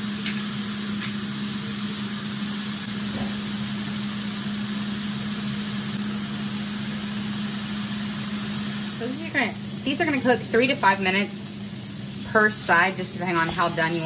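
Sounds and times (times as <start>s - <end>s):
patties sizzling in a pan: 0.0s - 14.0s.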